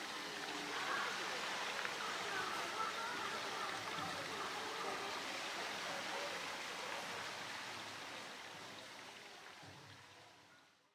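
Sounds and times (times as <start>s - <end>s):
water pouring into a pool: 0.0s - 10.5s.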